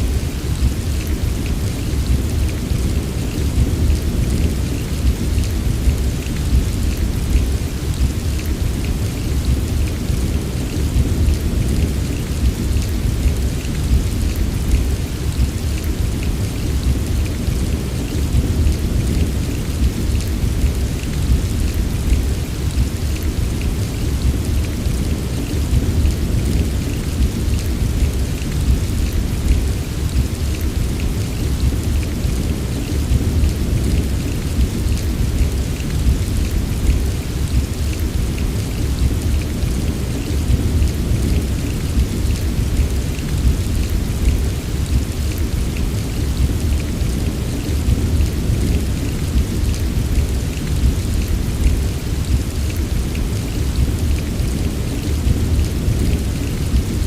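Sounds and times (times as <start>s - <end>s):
heavy rain: 0.0s - 57.0s
low rumble of thunder: 0.0s - 57.0s.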